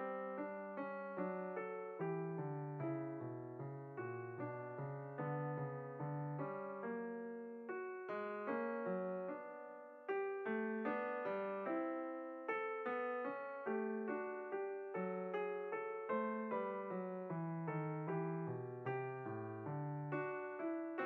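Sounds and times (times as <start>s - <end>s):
gentle solo piano: 0.0s - 21.0s.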